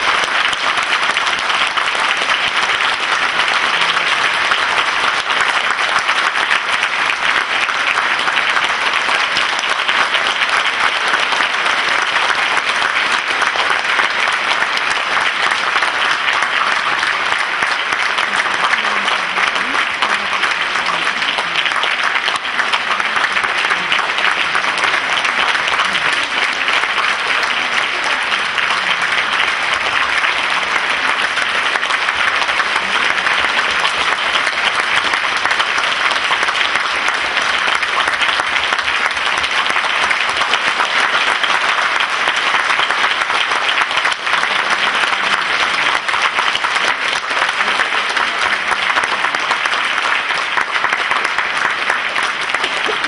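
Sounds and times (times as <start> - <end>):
audience applauding: 0.0 - 53.0.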